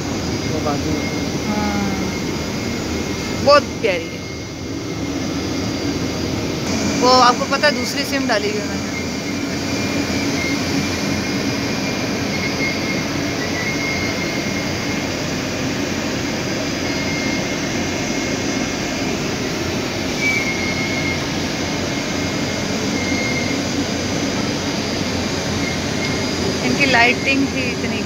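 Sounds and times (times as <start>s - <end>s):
ventilation hum: 0.0s - 28.0s.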